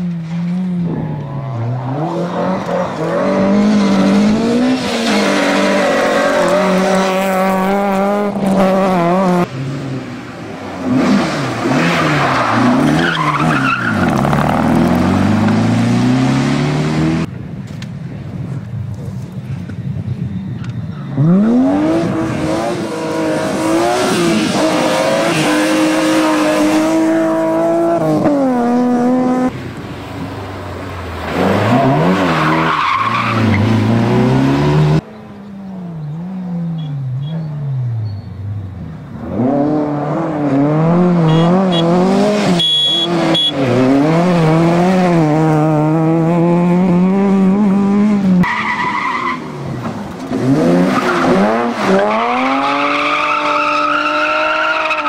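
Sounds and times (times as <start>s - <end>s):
rally car engines revving past: 0.0s - 17.3s, 21.1s - 29.6s, 31.0s - 55.0s.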